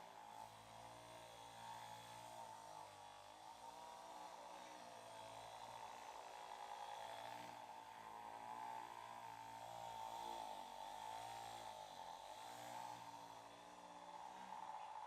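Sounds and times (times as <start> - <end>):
massager motor buzzing: 0.0 - 15.0.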